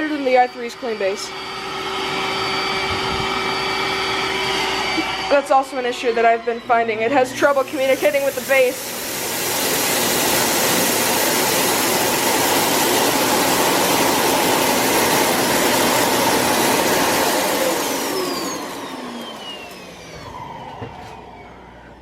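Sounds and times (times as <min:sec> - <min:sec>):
suction motor rushing air: 0:00.8 - 0:22.0.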